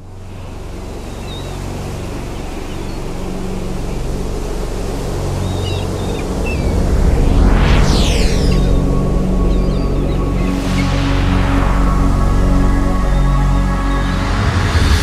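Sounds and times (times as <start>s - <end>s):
low sustained drone: 0.0s - 15.0s
waves and wind rushing: 0.0s - 15.0s.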